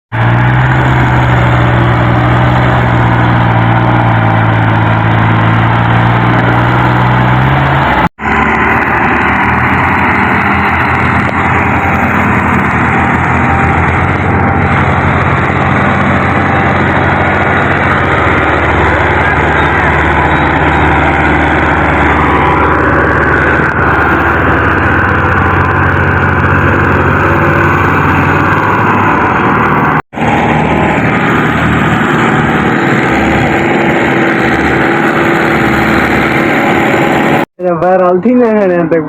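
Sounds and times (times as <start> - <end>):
engine rough uneven hum: 0.1 - 39.0
tractor engine running: 0.1 - 39.0.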